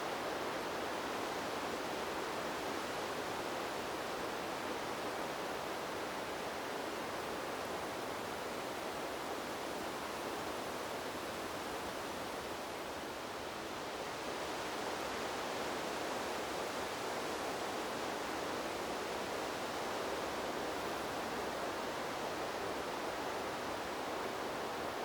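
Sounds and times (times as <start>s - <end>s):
wind blowing through trees: 0.0s - 25.0s.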